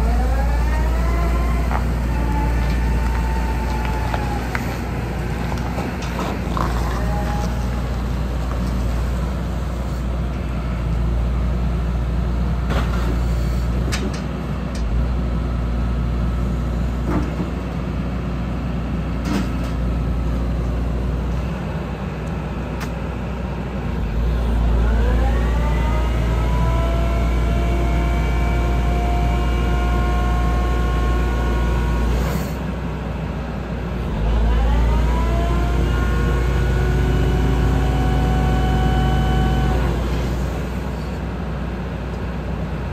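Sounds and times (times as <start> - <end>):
excavator diesel engine under load: 0.0 - 42.9.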